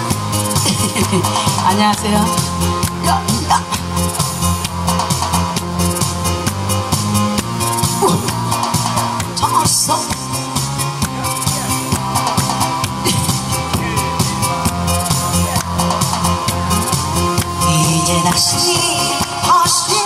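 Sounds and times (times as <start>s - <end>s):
backing-track music with drums: 0.0s - 20.0s.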